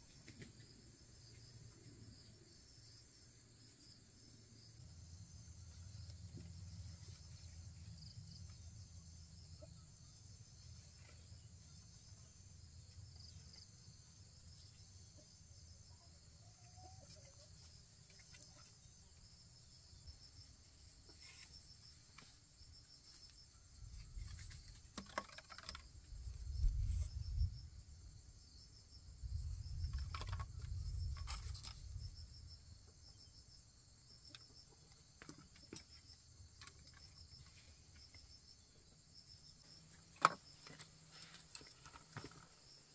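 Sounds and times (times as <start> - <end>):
insects trilling: 0.1 - 42.9.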